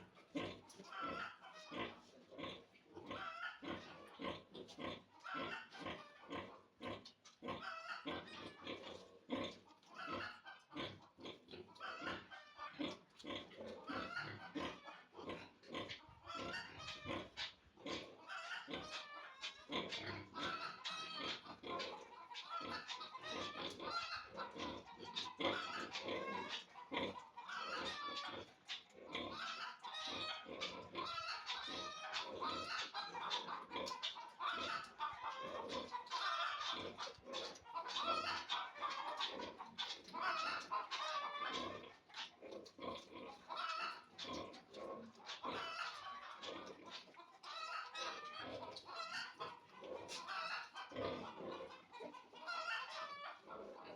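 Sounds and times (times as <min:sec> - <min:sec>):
piglets squealing and grunting: 0:00.0 - 0:53.9.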